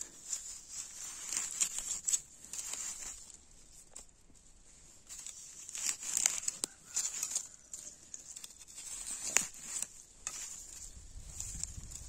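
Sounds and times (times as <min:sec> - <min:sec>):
rustling and crackling leaves: 0:00.0 - 0:12.0.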